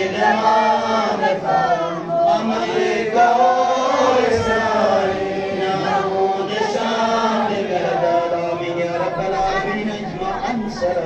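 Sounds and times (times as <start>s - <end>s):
congregation chanting: 0.0s - 11.0s.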